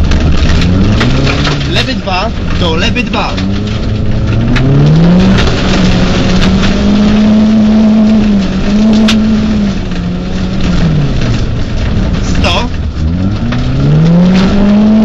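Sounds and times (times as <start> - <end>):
rally car engine revving: 0.0 - 15.0
tyre and road noise on dirt: 0.0 - 15.0.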